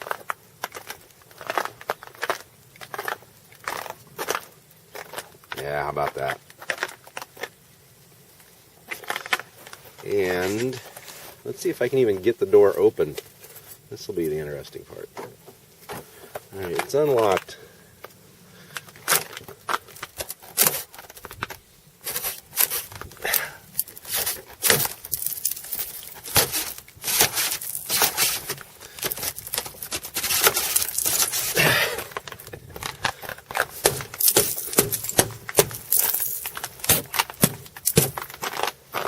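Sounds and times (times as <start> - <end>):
ice cracking and crunching: 0.0 - 7.6, 8.4 - 39.0.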